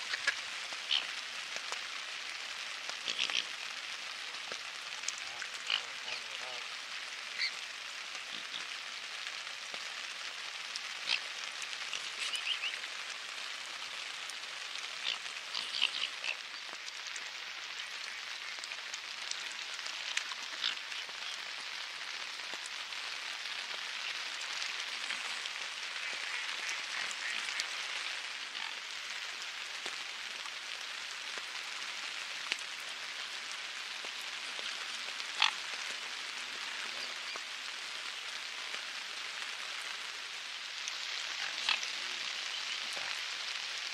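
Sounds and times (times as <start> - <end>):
rain falling on lake water: 0.0 - 43.9.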